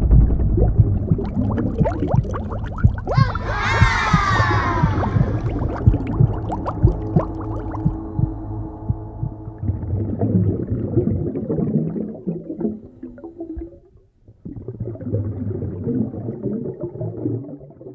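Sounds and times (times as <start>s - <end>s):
low underwater rumble: 0.0s - 17.9s
underwater gurgling and bubbling: 0.0s - 17.9s.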